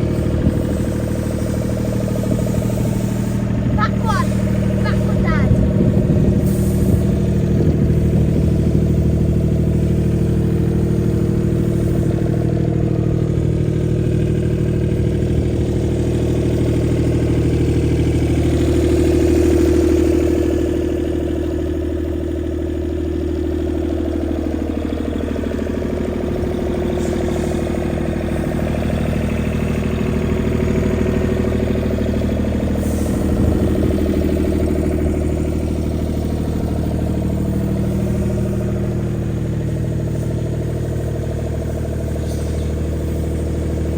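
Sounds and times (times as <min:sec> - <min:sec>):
skid steer engine running: 0:00.0 - 0:43.9.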